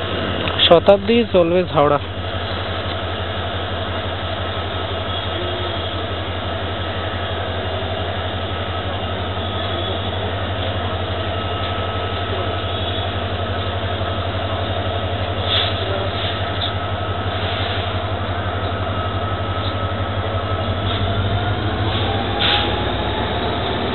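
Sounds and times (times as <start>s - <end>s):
diesel locomotive idling: 0.0s - 23.9s
high whine: 0.0s - 23.9s.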